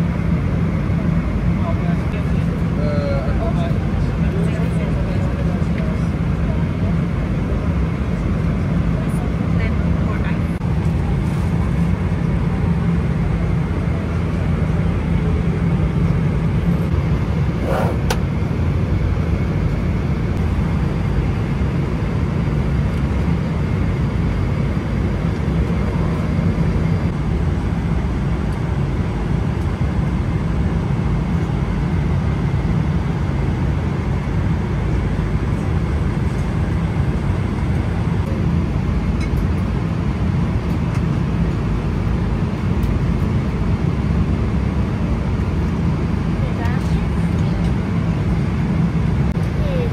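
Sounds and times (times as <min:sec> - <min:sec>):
aircraft cabin engine and airflow roar: 0:00.0 - 0:49.9.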